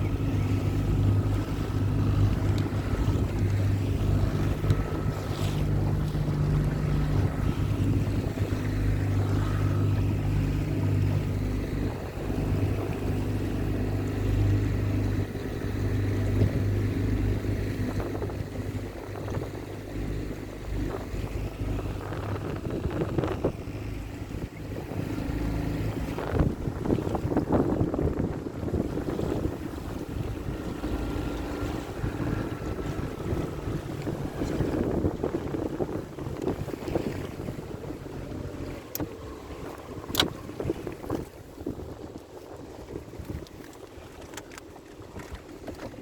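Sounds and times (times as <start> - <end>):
motorboat engine humming: 0.0 - 46.0
wind buffeting microphone: 0.0 - 46.0.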